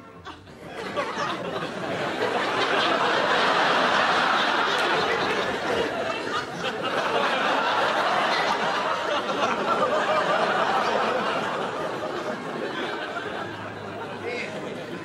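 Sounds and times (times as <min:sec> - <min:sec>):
studio audience laughing: 0:00.0 - 0:15.0.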